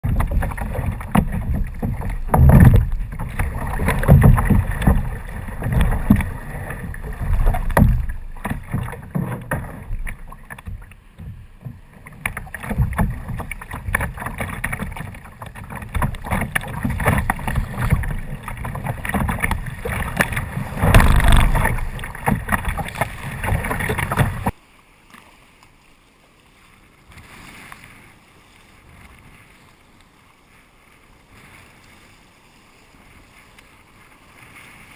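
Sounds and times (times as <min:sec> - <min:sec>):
water rushing and splashing: 0:00.0 - 0:34.9.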